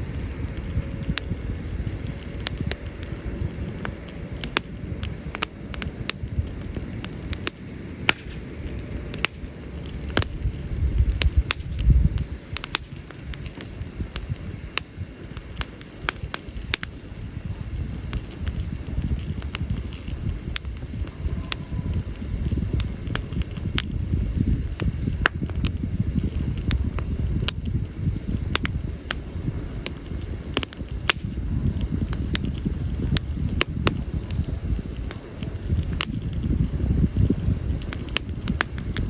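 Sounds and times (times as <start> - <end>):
campfire crackling and popping: 0.0 - 39.0
low fire rumble: 0.0 - 39.0.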